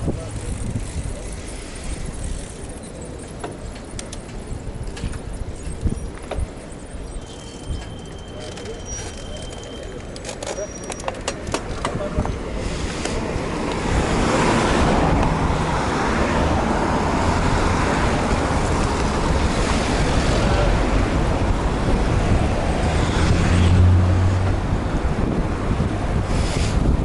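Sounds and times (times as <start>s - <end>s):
wind rushing over microphone: 0.0s - 2.6s, 4.3s - 8.0s, 11.4s - 27.0s.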